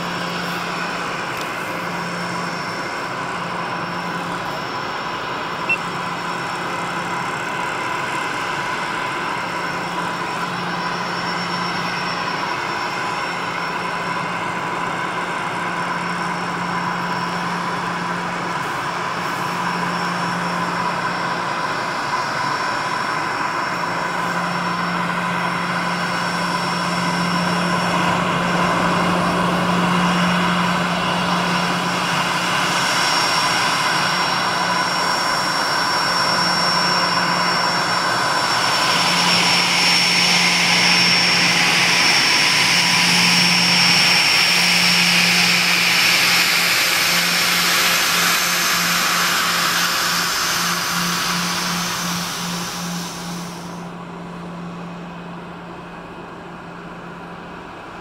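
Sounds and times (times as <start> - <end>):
jet engines whining at taxi: 0.0 - 58.0.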